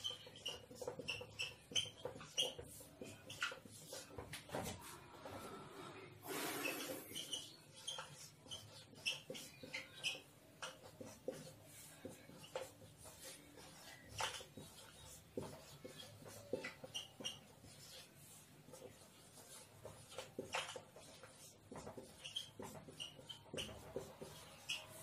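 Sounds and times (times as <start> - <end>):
marker writing on whiteboard: 0.0 - 5.5, 6.3 - 25.0.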